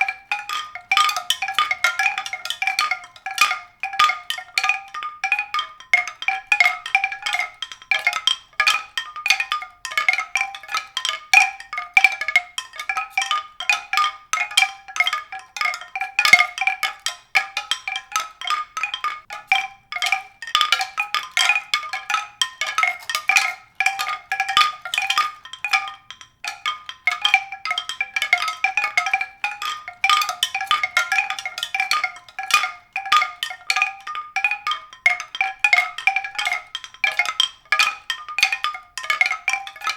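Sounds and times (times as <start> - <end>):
tuned percussion notes: 0.0 - 39.9.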